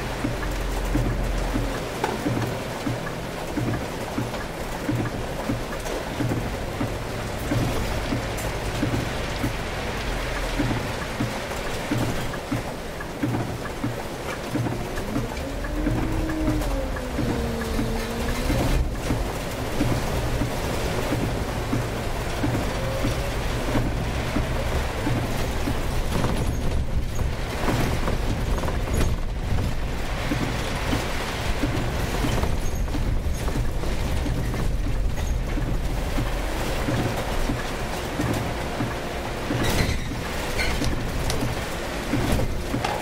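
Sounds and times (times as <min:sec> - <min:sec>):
bus engine and road hum: 0:00.0 - 0:43.0
heavy rain on windscreen: 0:00.0 - 0:43.0
tyres on flooded road: 0:00.0 - 0:43.0.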